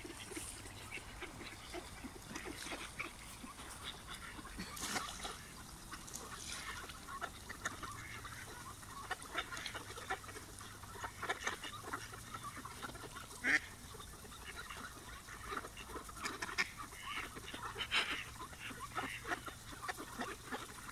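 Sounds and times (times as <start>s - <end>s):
ducks quacking: 0.0s - 20.9s.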